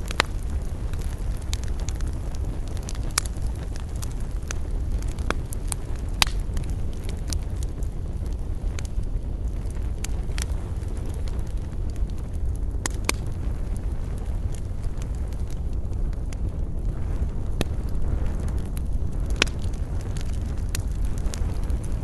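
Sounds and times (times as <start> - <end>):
campfire crackling: 0.0 - 22.0
fire popping and snapping: 0.0 - 22.0
low rumble: 0.0 - 22.0.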